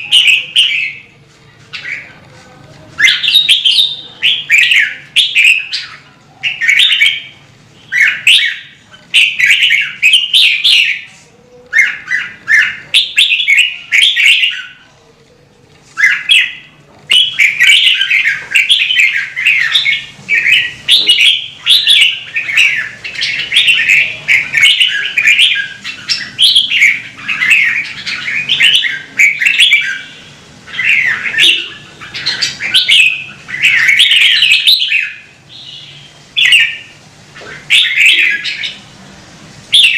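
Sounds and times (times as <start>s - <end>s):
bird singing warbling phrases: 0.0s - 2.2s, 2.9s - 15.0s, 15.8s - 39.0s, 39.7s - 39.9s.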